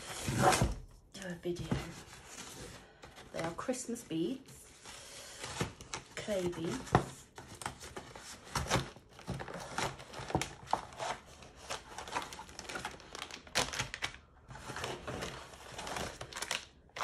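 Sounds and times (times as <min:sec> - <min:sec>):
packaging crinkling and rustling: 0:01.8 - 0:17.0.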